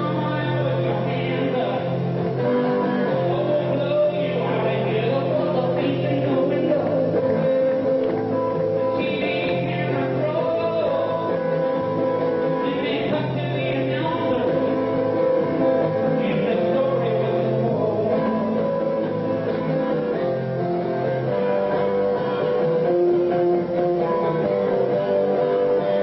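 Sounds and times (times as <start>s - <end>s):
rock band with electric guitar: 0.0s - 26.0s.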